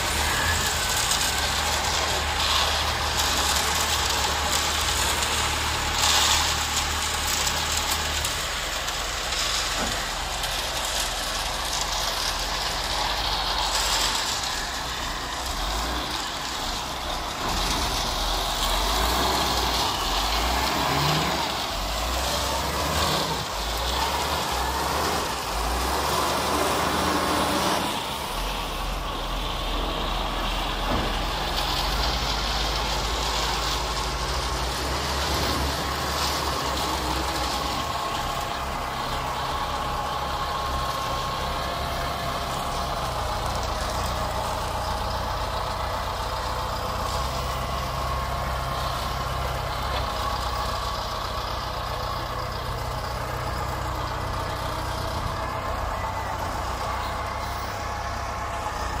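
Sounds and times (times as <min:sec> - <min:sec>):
diesel truck engines running: 0:00.0 - 0:59.0.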